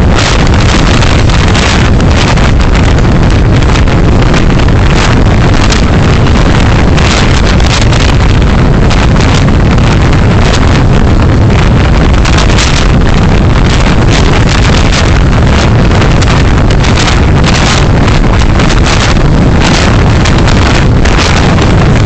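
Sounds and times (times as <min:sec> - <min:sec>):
road and wind noise: 0:00.0 - 0:22.0
short crackles: 0:00.0 - 0:22.0.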